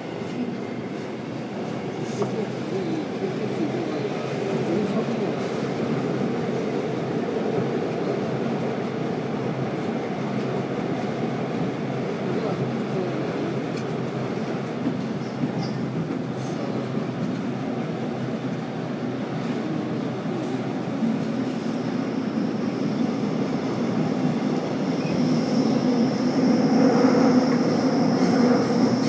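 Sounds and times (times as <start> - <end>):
subway train wheels rumbling: 0.0 - 29.0.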